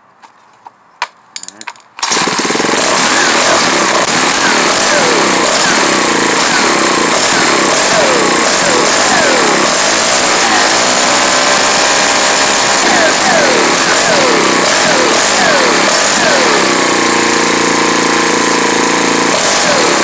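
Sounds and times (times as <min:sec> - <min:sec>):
string trimmer engine revving: 0:02.0 - 0:20.0.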